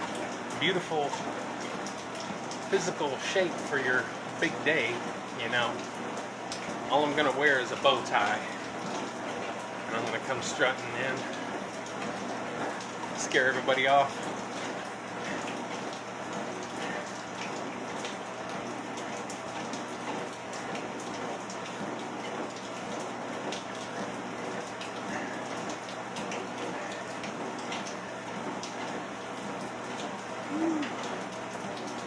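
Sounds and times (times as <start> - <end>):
steady rain falling: 0.0 - 32.0
treadmill humming: 0.0 - 32.0.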